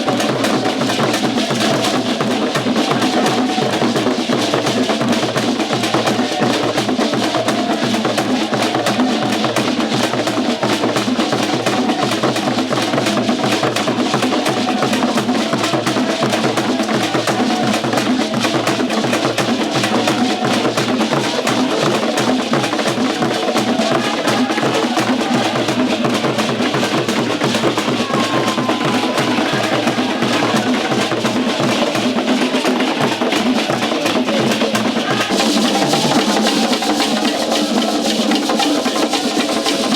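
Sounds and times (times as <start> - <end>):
fast drumming and percussion: 0.0 - 39.9.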